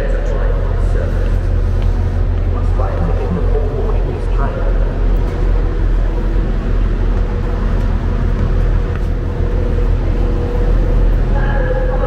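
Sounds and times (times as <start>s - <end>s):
low rumble of train shed: 0.0s - 12.0s.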